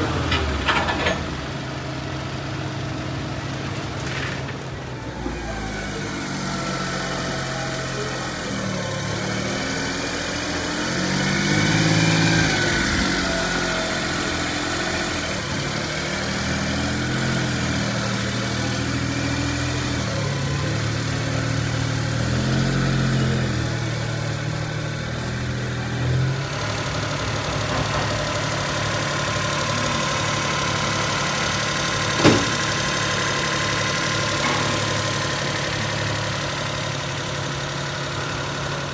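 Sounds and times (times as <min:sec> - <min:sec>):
small truck engine idling: 0:00.0 - 0:38.9.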